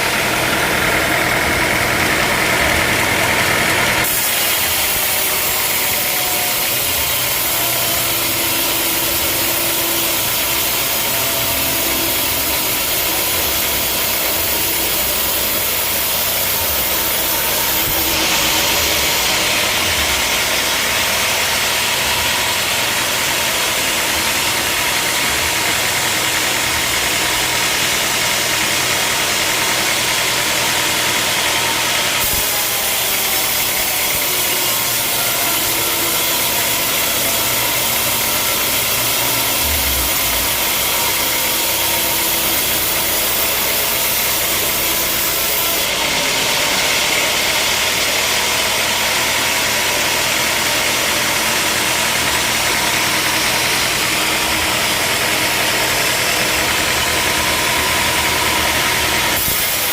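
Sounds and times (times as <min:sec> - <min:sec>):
engine running: 0:00.0 - 0:59.9
sawmill machinery running: 0:00.0 - 0:59.9.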